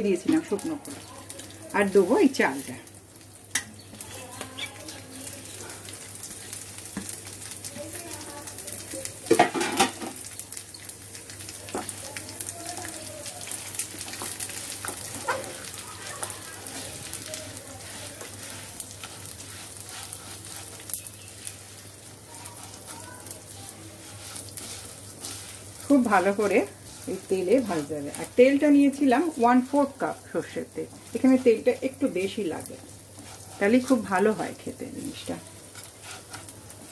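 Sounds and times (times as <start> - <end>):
rice and dal sizzling in oil: 0.0 - 36.9
stirring in a pan: 0.0 - 36.9.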